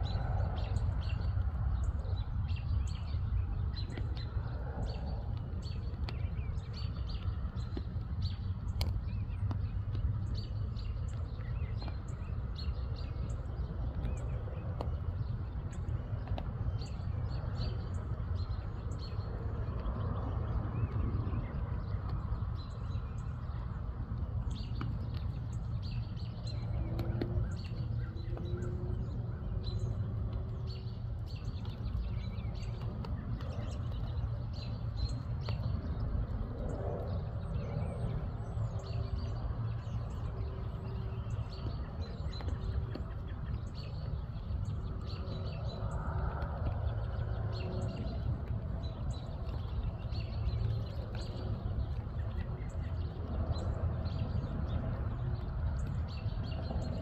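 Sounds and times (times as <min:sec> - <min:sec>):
low background rumble: 0:00.0 - 0:57.0
small birds chirping: 0:00.0 - 0:57.0.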